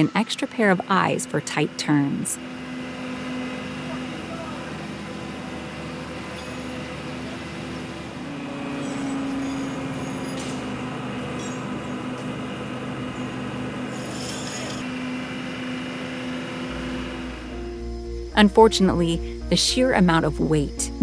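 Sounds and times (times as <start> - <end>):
machinery hum with drone: 0.0 - 21.0.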